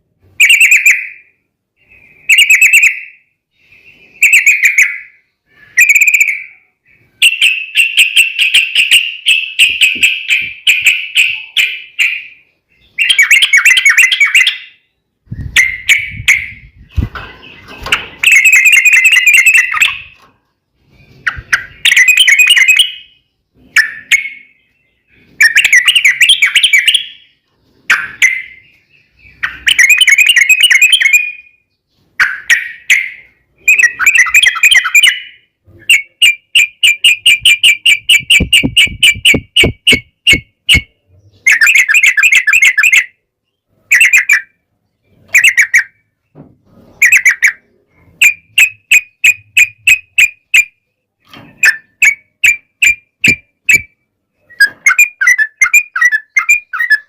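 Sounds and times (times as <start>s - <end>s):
bird song chattering phrases: 0.4s - 20.2s, 20.8s - 46.4s, 47.0s - 57.0s.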